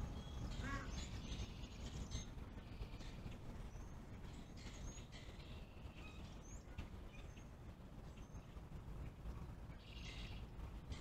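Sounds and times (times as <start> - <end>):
birds chirping: 0.0 - 11.0
distant road traffic rumble: 0.0 - 11.0.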